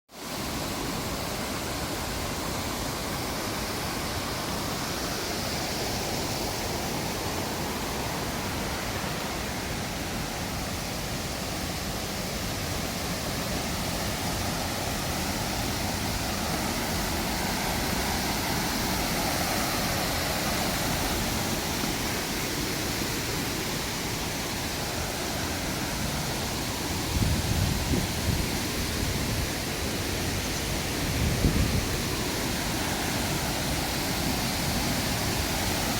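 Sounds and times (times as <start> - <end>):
waterfall rushing: 0.2 - 35.9.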